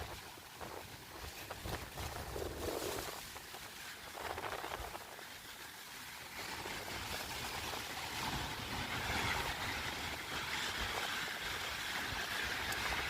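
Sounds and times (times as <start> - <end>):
rain and tyres on wet road: 0.0 - 13.0
wind rumbling on microphone: 0.0 - 13.0.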